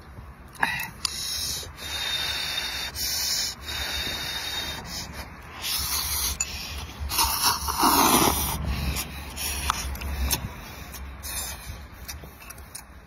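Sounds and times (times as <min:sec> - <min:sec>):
person slurping noodles: 0:00.9 - 0:12.2.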